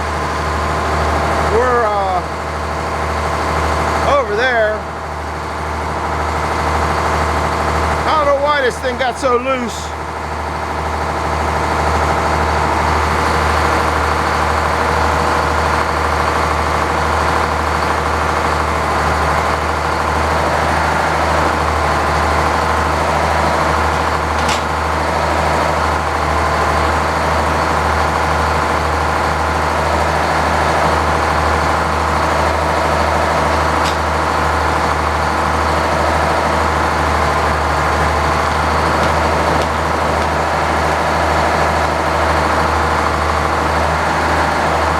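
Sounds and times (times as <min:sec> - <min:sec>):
sawmill engine running: 0:00.0 - 0:44.9.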